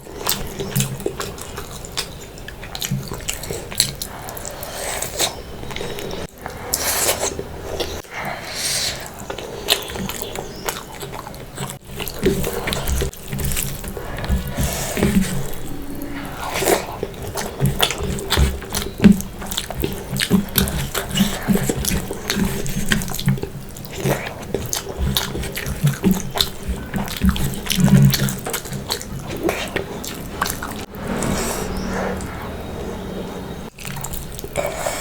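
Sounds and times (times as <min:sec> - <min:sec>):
wet chewing and mouth smacking: 0:00.0 - 0:35.0.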